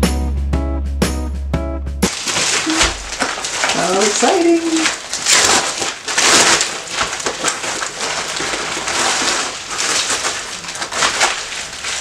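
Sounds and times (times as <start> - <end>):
plastic bag crinkling: 2.1 - 12.0.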